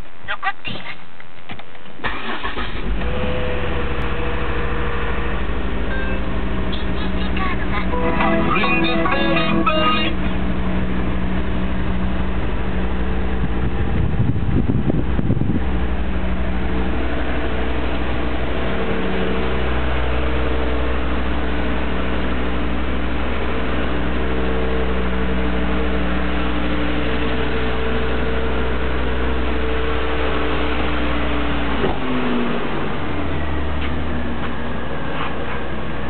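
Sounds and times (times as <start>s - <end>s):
car engine idling: 1.2s - 36.0s.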